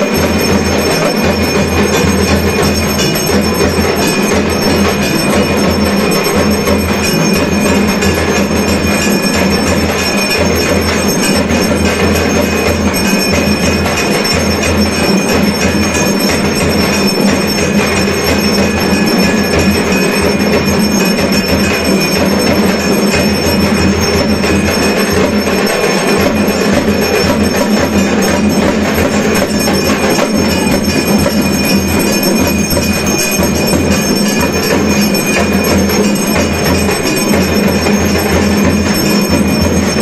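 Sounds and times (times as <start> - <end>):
temple bells clanging: 0.0 - 40.0.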